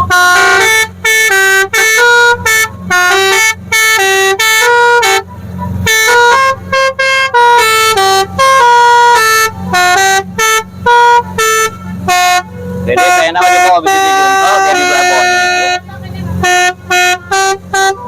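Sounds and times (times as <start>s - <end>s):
musical horn playing melody: 0.0s - 18.0s.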